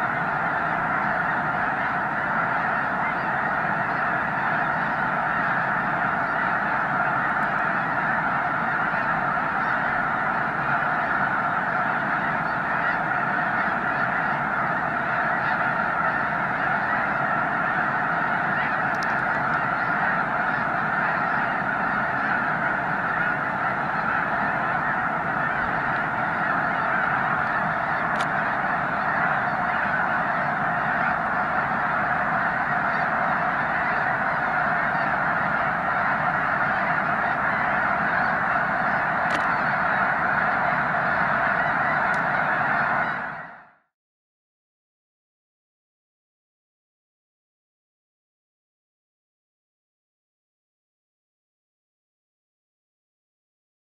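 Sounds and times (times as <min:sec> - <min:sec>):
flock of geese honking: 0:00.0 - 0:43.9.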